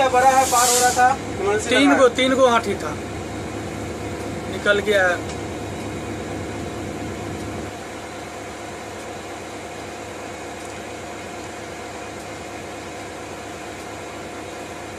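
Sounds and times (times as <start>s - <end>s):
locomotive cab mechanical hum: 0.0s - 14.9s.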